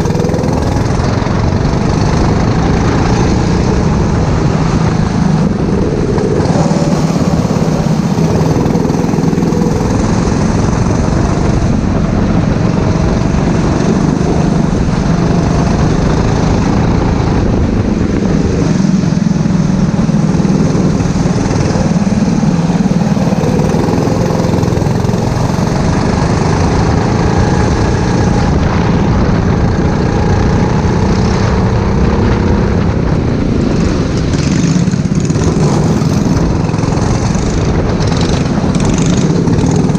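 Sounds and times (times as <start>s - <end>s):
go-kart engine racing: 0.0s - 39.9s.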